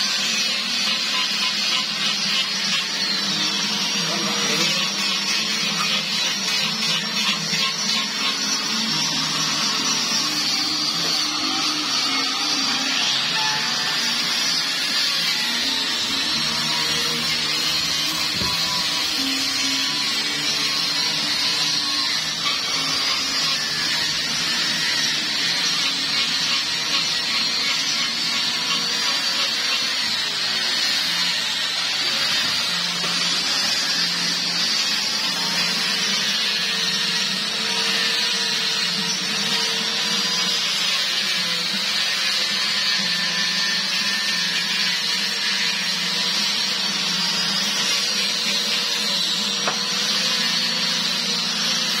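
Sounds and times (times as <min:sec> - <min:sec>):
angle grinder sanding wood: 0:00.0 - 0:52.0.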